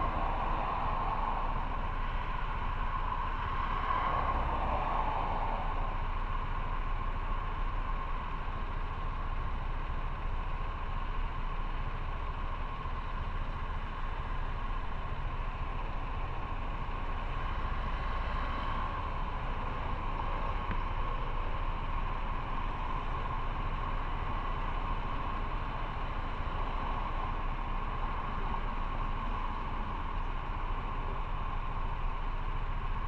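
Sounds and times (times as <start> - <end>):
wind and road noise: 0.0 - 33.0
motorcycle engine running: 5.7 - 33.0.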